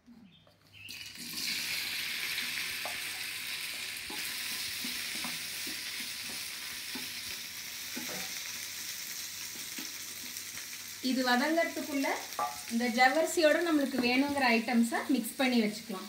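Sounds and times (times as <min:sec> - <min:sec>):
potatoes sizzling in oil: 0:00.8 - 0:16.0.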